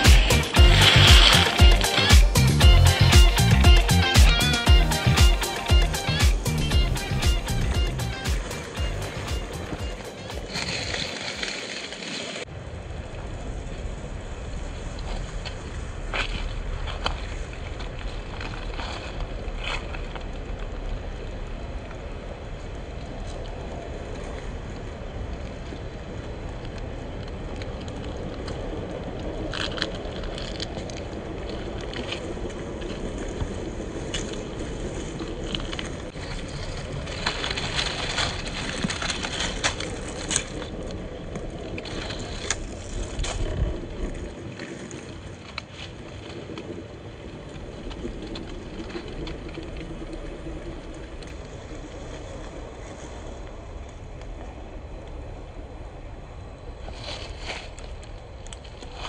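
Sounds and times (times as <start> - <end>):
tyres crackling over twigs: 0.0 - 12.5, 22.8 - 55.9, 56.5 - 59.0.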